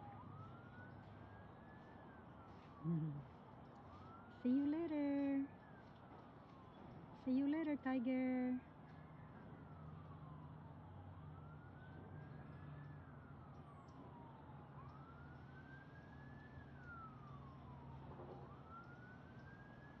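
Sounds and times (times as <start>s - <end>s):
faint siren wailing: 0.0s - 20.0s.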